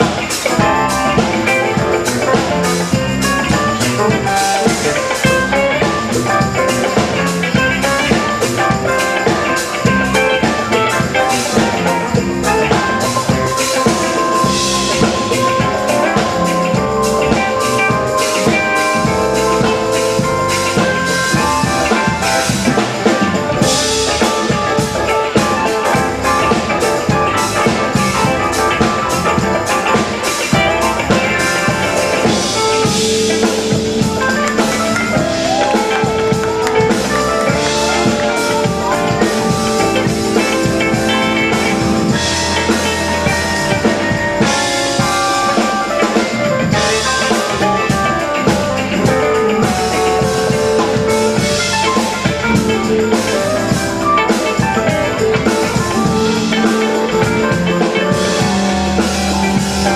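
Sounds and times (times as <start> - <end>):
bass: 0.0 - 59.9
drum kit: 0.0 - 59.9
electric guitars: 0.0 - 59.9
keyboards: 0.0 - 59.9.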